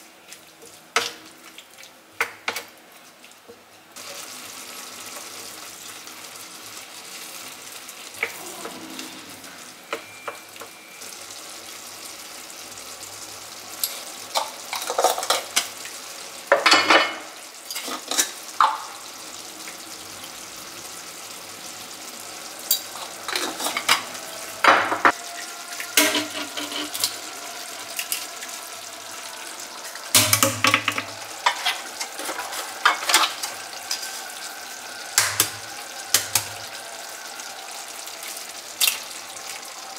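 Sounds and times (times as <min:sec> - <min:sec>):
sauce sizzling in a frying pan: 0:00.0 - 0:39.9.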